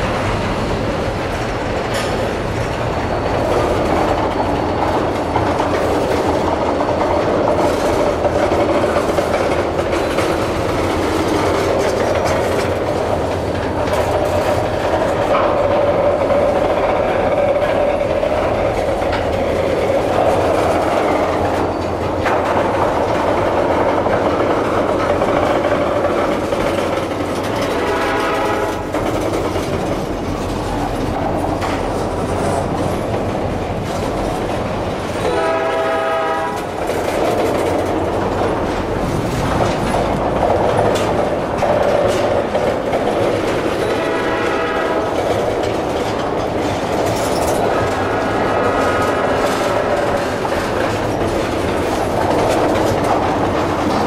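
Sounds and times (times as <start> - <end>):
train wheels rumbling on rail: 0.0 - 54.0
wheels clacking over rail joints: 0.0 - 54.0.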